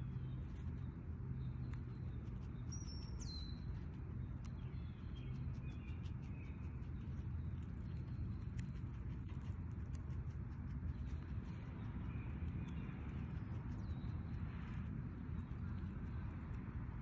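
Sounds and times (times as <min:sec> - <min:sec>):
birds chirping: 0:00.0 - 0:17.0
low outdoor hum: 0:00.0 - 0:17.0
rabbit nibbling clicks: 0:00.1 - 0:17.0.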